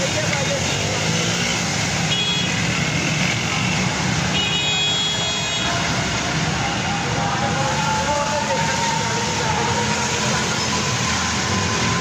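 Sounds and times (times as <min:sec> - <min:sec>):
heavy rain on a street: 0:00.0 - 0:12.0
traffic passing on wet road: 0:00.0 - 0:12.0.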